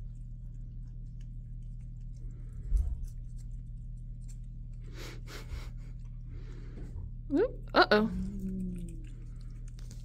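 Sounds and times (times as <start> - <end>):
cats licking: 0.0 - 6.8, 7.6 - 10.0.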